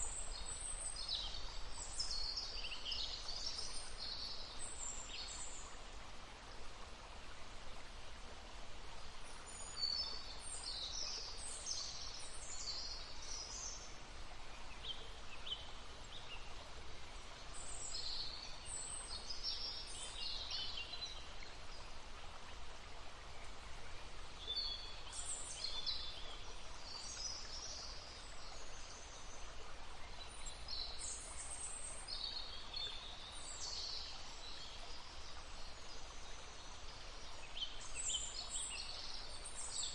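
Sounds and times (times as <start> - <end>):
babbling stream: 0.0 - 39.9
songbirds chirping: 0.0 - 39.9.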